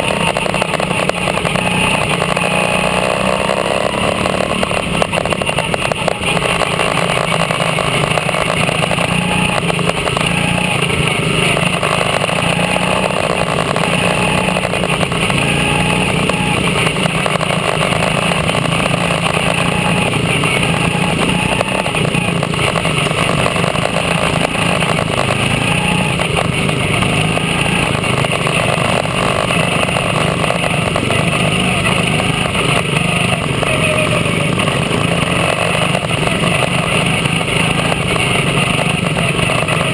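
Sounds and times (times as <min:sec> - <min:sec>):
other race cars nearby: 0:00.0 - 0:39.9
small race car engine running: 0:00.0 - 0:39.9.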